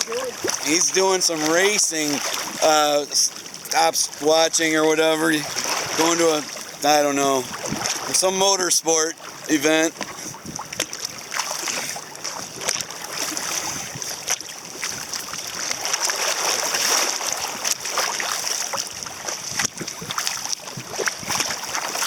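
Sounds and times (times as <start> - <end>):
small sharp splashes: 0.0 - 8.3, 9.1 - 22.0
water slapping against hull: 0.0 - 22.0.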